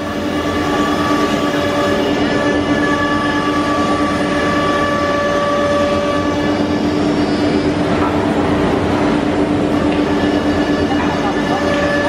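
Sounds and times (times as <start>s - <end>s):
router spindle whine: 0.0s - 7.8s, 9.7s - 12.0s.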